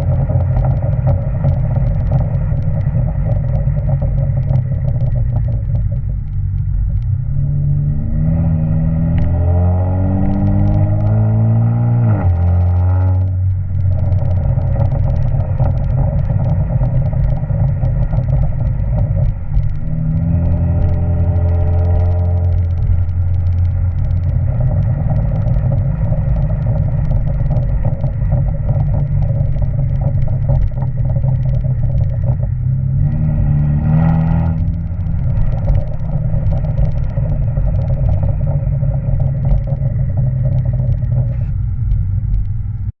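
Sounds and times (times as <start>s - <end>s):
engine revving: 0.0s - 42.9s
car exhaust burble with crackles: 0.0s - 43.0s.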